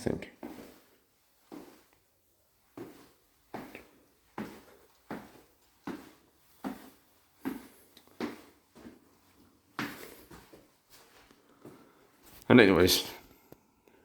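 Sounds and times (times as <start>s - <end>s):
footsteps walking indoors: 0.0s - 14.0s.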